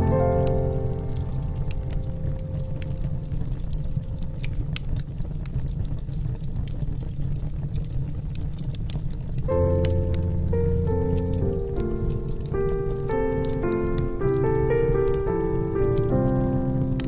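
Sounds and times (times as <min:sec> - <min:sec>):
fire low rumble: 0:00.0 - 0:17.0
wood fire crackling and popping: 0:00.0 - 0:17.0.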